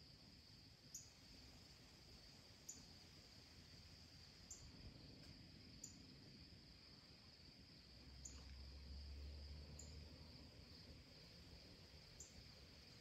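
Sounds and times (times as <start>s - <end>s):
insect chirps: 0.0s - 13.0s
insect drone: 0.0s - 13.0s.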